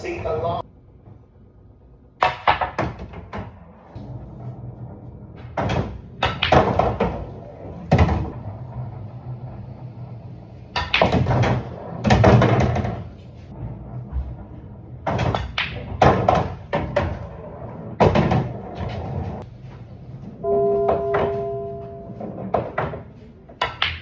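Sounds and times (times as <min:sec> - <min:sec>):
pool balls clacking: 0:02.2 - 0:09.3, 0:10.2 - 0:19.5, 0:20.4 - 0:24.0.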